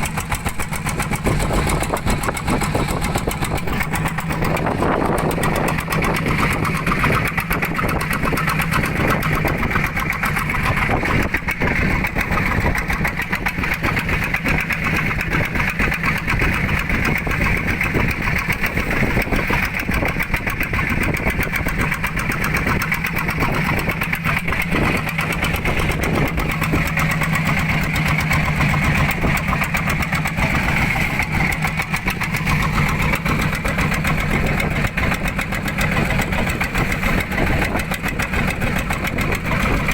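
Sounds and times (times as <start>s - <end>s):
boat engine humming: 0.0s - 39.9s
noisy rush: 0.0s - 39.9s.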